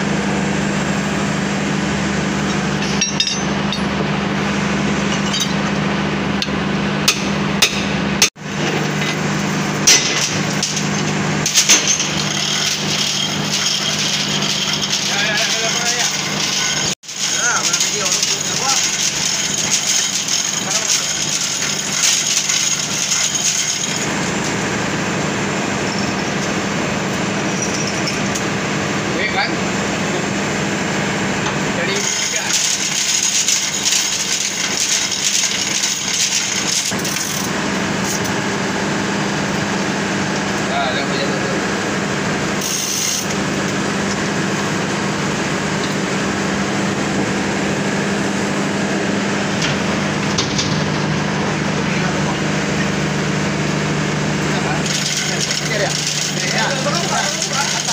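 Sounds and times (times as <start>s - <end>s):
constant low hum: 0.0s - 57.8s
industrial machinery running: 0.0s - 57.9s.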